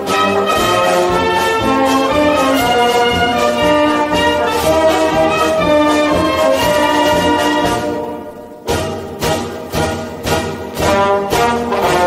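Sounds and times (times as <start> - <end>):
wind band playing a march: 0.0 - 12.0.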